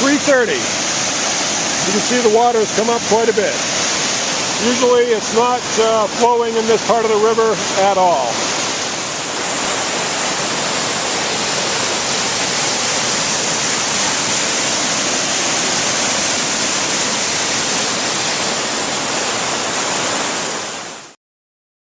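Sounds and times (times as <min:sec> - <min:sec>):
stream rushing: 0:00.0 - 0:21.2.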